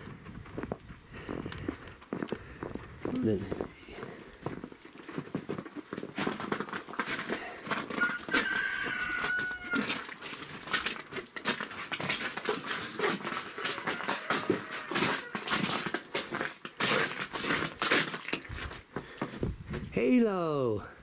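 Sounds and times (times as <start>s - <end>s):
footsteps crunching in wet snow: 0.0s - 20.1s.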